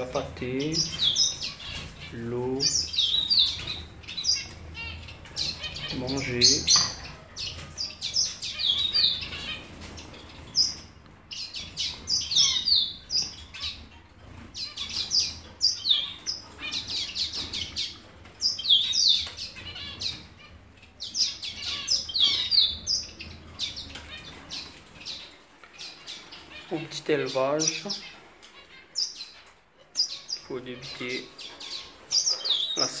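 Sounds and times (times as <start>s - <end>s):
finches chirping: 0.0s - 33.0s.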